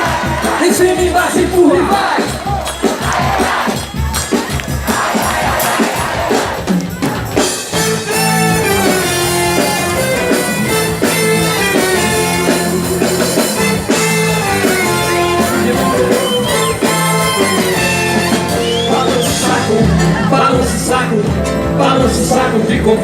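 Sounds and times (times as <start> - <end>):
live band playing upbeat music: 0.0 - 23.0.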